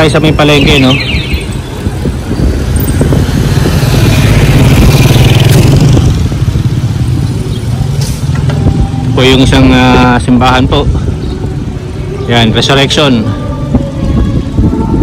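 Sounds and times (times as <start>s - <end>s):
road and wind noise: 0.0s - 15.0s
vehicle engine droning: 1.3s - 15.0s.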